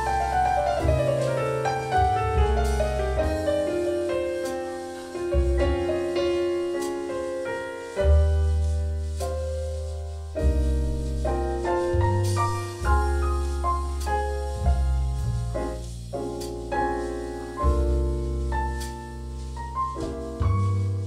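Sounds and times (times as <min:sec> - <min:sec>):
deep bass notes: 0:00.0 - 0:21.0
jazz piano: 0:00.0 - 0:21.0.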